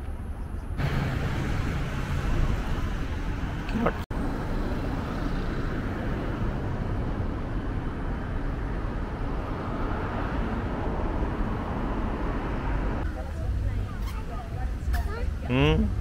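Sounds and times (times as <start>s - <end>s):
distant traffic rumble with hiss: 0.0s - 16.0s.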